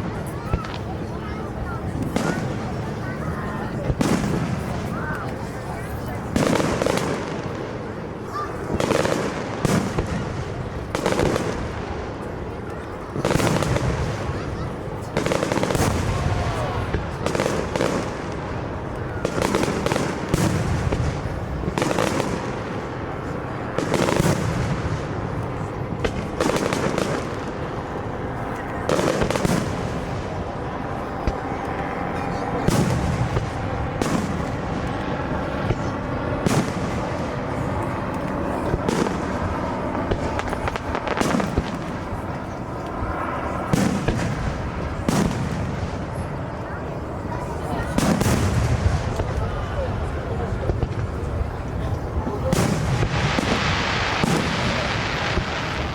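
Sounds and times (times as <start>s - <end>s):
fireworks bursting bangs: 0.0s - 46.6s, 47.4s - 55.9s.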